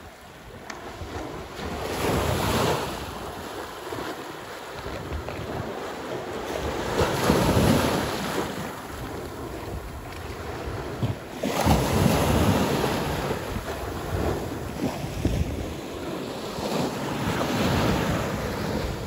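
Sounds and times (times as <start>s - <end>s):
waves washing against sea wall: 0.0s - 19.0s
wind buffeting microphone: 0.0s - 19.0s.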